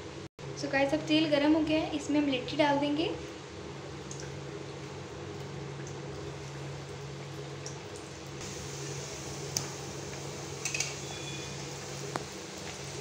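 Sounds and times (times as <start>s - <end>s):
food frying in bubbling oil: 0.6s - 13.0s.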